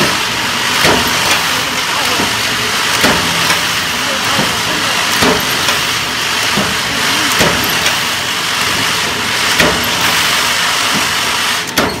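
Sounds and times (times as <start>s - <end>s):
loud machine noise: 0.0s - 12.0s.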